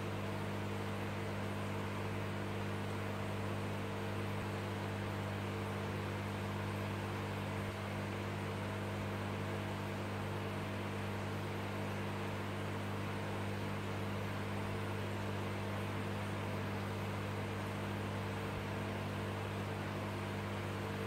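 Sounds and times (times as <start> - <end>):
aquarium equipment hum: 0.0 - 21.0.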